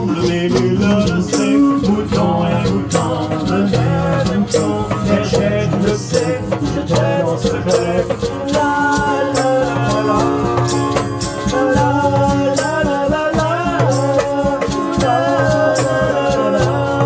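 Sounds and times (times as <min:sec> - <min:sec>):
acoustic guitar: 0:00.0 - 0:17.0
wavering melody line: 0:00.0 - 0:17.0.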